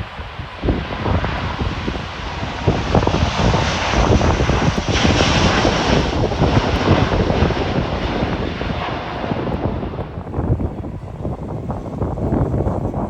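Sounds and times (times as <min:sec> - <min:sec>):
jet engines roaring: 0:00.0 - 0:13.0
wind buffeting microphone: 0:00.0 - 0:13.0.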